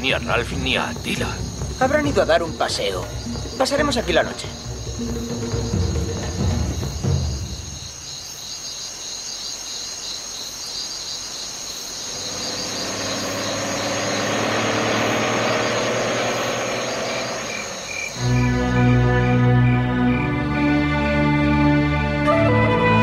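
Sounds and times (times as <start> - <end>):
crickets chirping: 0.0 - 20.8.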